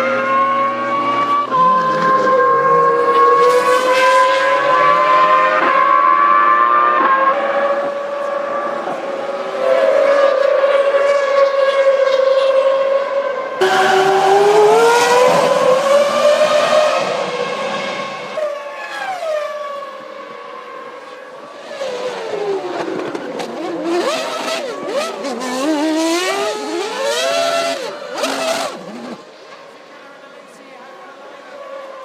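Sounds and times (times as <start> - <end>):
racing car engines at high revs: 0.0 - 29.9.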